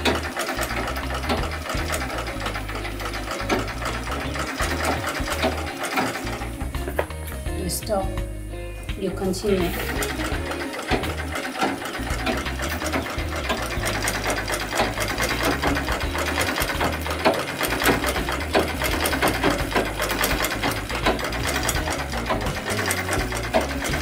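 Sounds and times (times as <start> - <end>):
treadle sewing machine ticking: 0.0 - 7.9, 9.0 - 24.0.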